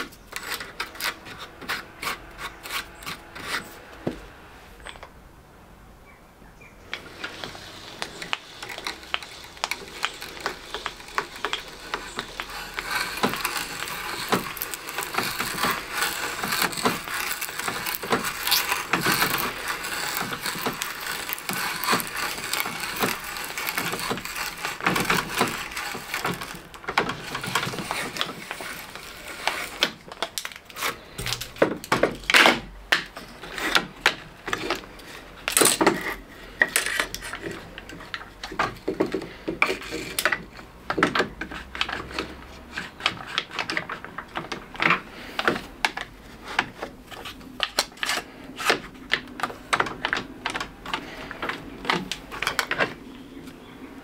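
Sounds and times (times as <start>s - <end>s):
auger bit boring through wood: 0.0s - 5.2s, 6.8s - 53.7s.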